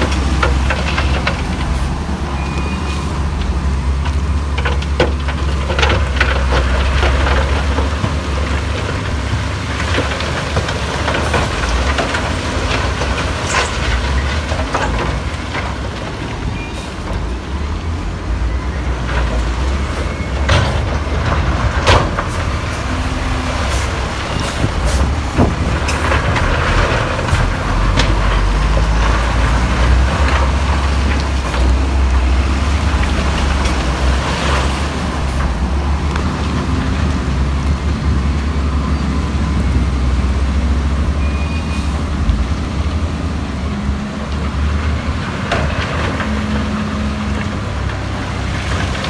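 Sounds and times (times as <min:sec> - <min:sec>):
diesel machinery engine drone: 0:00.0 - 0:49.0.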